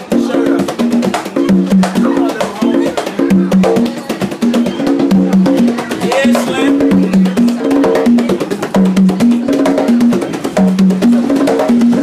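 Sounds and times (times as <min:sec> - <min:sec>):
conga drums played by hand: 0:00.0 - 0:12.0.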